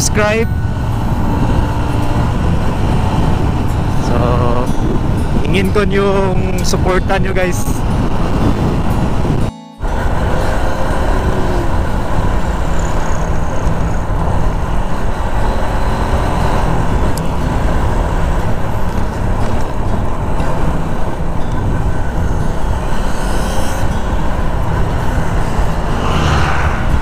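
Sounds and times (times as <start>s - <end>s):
motorcycle engine running: 0.0s - 6.7s, 7.8s - 27.0s
wind on microphone: 0.0s - 27.0s.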